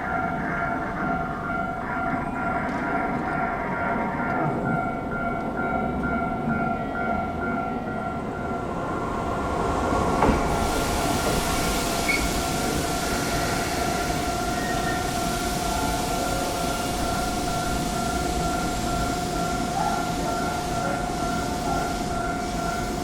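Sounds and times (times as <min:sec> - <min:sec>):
crossing warning bell ringing: 0:00.0 - 0:23.0
train wheel and rail noise: 0:00.0 - 0:23.0.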